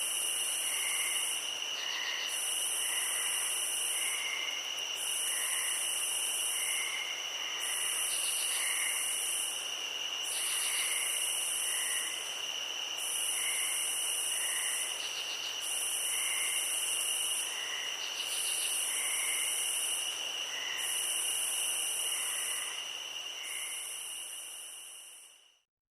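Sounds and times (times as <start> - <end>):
crickets trilling: 0.0 - 25.5
shrill pulsing insect calls: 0.0 - 25.5.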